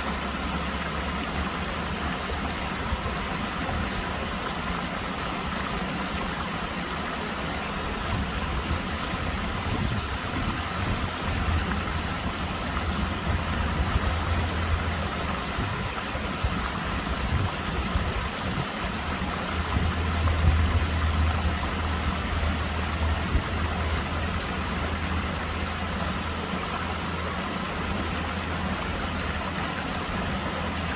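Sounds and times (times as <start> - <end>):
stream flowing over stones: 0.0 - 30.9.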